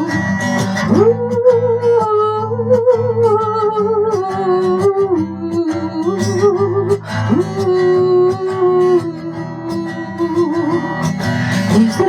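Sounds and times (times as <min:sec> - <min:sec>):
acoustic guitar accompaniment: 0:00.0 - 0:12.0.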